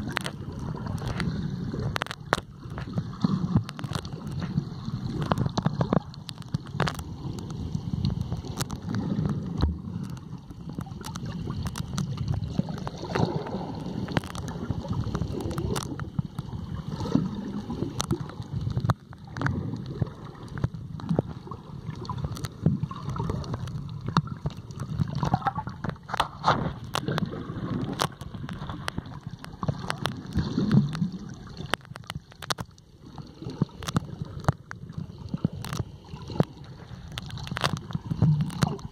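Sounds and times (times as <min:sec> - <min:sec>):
sharp clicks underwater: 0:00.0 - 0:38.9
underwater rumble and gurgling: 0:00.0 - 0:38.9.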